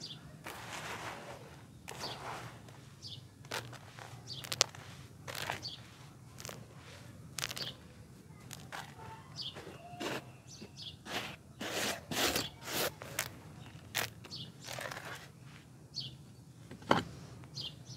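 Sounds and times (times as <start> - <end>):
birds chirping faintly: 0.0 - 17.9
clay grit crunching by hand: 0.4 - 15.7.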